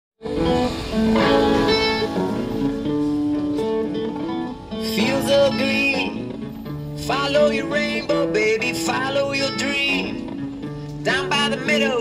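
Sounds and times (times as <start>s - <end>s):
acoustic guitar: 0.2s - 12.0s.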